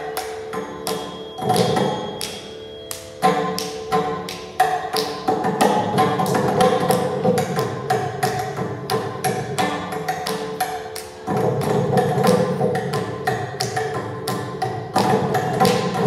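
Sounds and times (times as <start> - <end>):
electronic tanpura drone: 0.0 - 16.0
mridangam drum strokes: 0.0 - 16.0.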